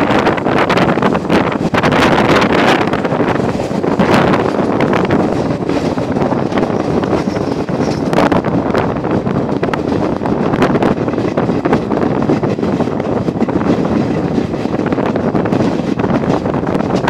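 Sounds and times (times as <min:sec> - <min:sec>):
train running rumble: 0:00.0 - 0:17.0
wheel and carriage rattles: 0:00.0 - 0:17.0
wind on microphone: 0:00.0 - 0:17.0.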